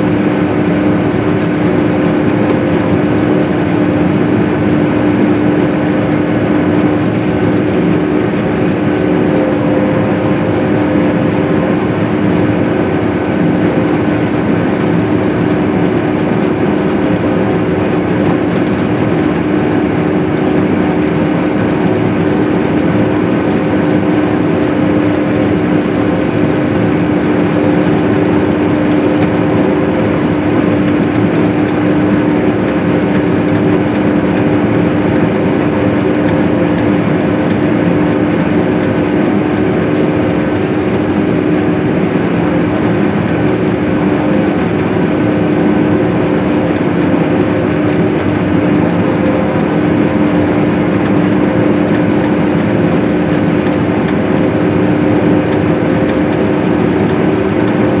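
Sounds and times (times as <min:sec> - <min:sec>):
farm machine engine droning: 0:00.0 - 0:58.0.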